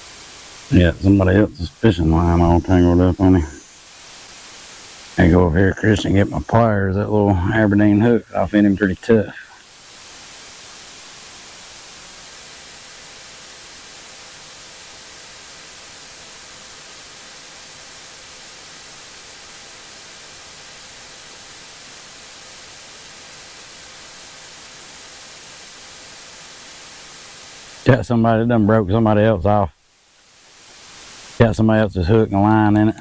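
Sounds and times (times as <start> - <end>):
static hiss: 0.0 - 33.0.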